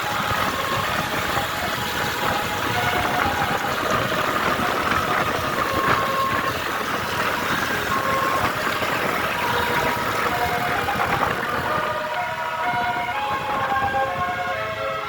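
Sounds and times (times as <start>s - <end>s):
bus engine: 0.0s - 15.0s
road noise: 0.0s - 15.0s.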